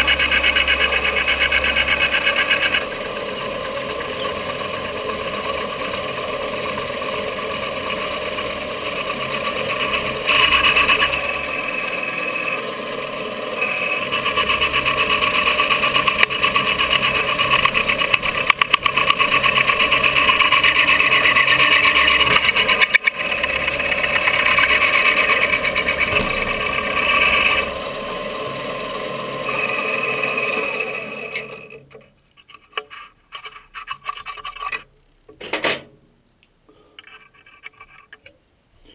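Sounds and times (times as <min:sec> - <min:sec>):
milling machine cutting: 0:00.0 - 0:31.9.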